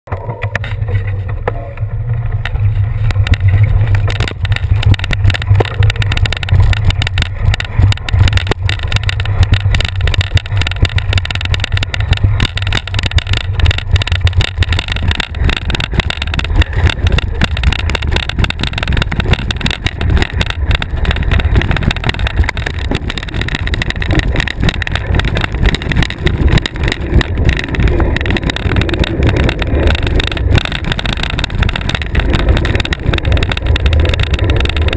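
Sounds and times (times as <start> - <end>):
rattling and knocking from bumps: 0.1 - 34.9
bicycle tyre noise on sand: 0.5 - 34.9
wind buffeting microphone: 2.3 - 34.9.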